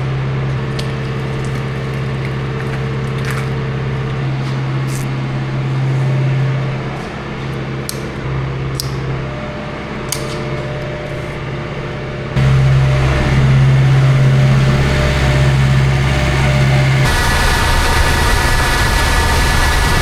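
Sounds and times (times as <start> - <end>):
machine droning: 0.0 - 20.0.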